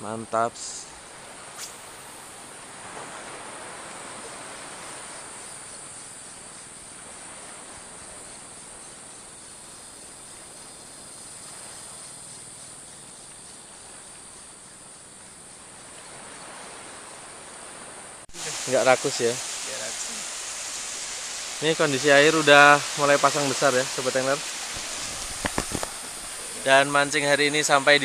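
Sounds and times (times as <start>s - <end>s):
insect chirring: 0.0s - 28.0s
shallow seawater: 0.0s - 28.0s
wind: 0.0s - 28.0s.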